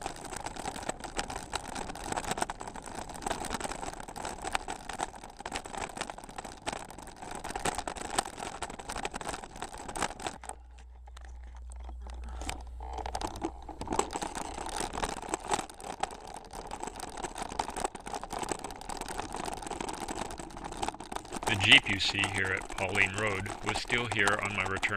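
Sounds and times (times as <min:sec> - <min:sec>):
bicycle tyres crunching on dirt: 0:00.0 - 0:24.9
rattling clicks: 0:00.0 - 0:24.9.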